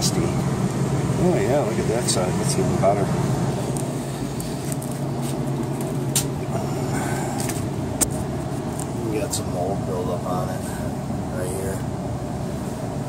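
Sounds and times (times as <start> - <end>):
furnace blower humming: 0.0 - 13.0.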